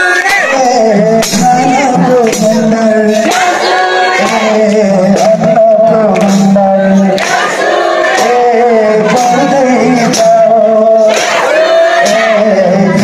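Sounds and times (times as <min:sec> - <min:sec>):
man singing through loudspeaker: 0:00.0 - 0:13.0
music with percussion beat: 0:00.0 - 0:13.0.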